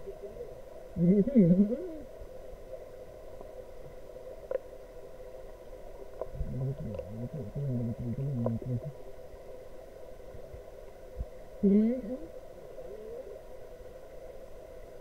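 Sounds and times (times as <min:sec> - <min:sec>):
dull background noise: 0:00.0 - 0:15.0.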